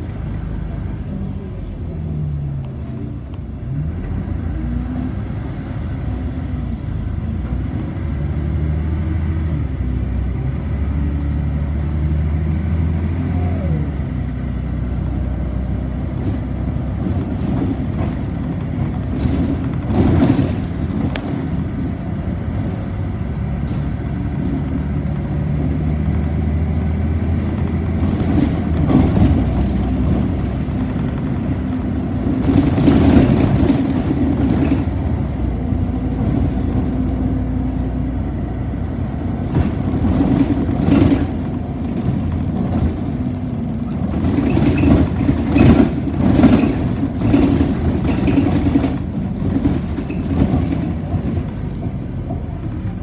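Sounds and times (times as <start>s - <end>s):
bus engine and road hum: 0.0s - 53.0s.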